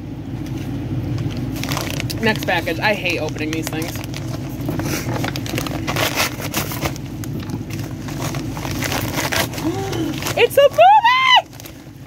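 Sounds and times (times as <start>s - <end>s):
steady low hum: 0.0s - 12.0s
paper mailer ripping and crinkling: 1.2s - 12.0s.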